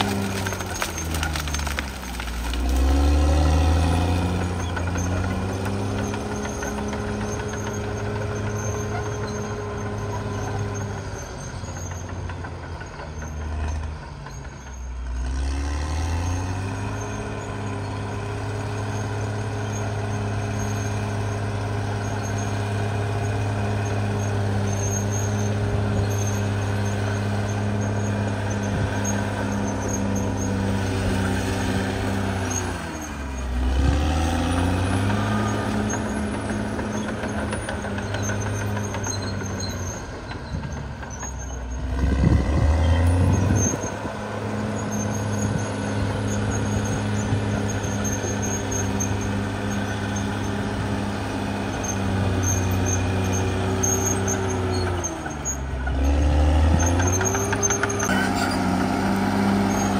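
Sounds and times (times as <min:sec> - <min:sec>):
bulldozer diesel engine: 0:00.0 - 0:59.9
bulldozer pushing through trees: 0:00.0 - 0:59.9.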